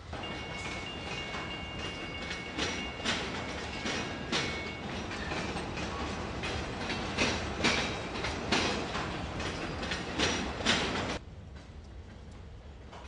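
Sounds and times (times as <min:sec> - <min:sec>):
train wheels rumbling on rails: 0:00.0 - 0:13.0
wheels clacking over track joints: 0:00.0 - 0:13.0.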